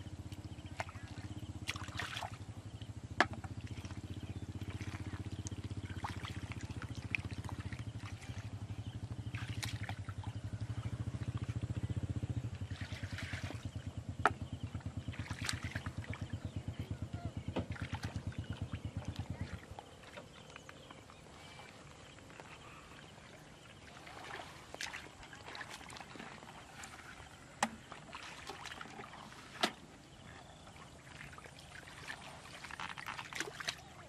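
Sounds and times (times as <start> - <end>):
water sloshing and splashing: 0.0 - 34.0.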